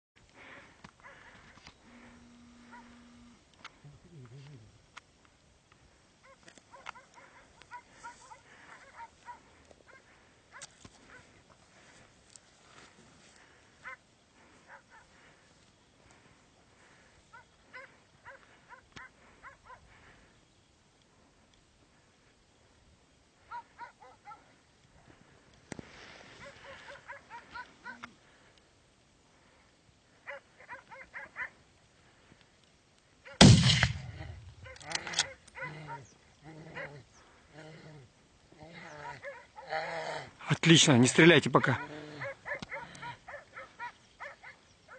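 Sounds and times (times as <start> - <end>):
faint dogs barking: 0.4 - 4.6, 6.2 - 20.3, 23.4 - 25.3, 26.0 - 28.6, 29.4 - 32.4, 33.2 - 33.4, 34.2 - 44.9.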